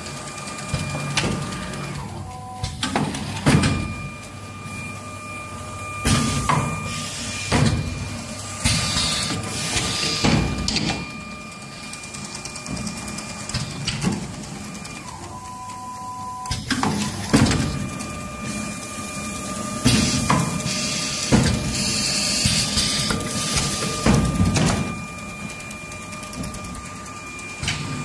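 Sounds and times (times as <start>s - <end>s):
steady high machine whine: 0.0s - 28.0s.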